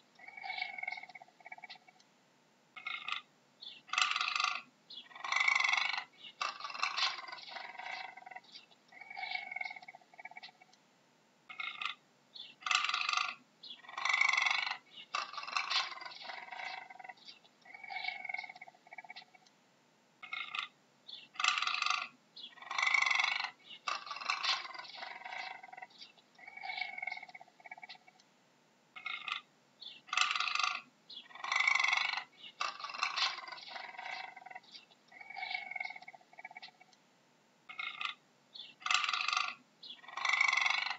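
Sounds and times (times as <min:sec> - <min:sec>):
cougar calling: 0:00.0 - 0:02.0, 0:02.8 - 0:10.7, 0:11.5 - 0:19.4, 0:20.2 - 0:28.2, 0:29.0 - 0:37.0, 0:37.7 - 0:40.9.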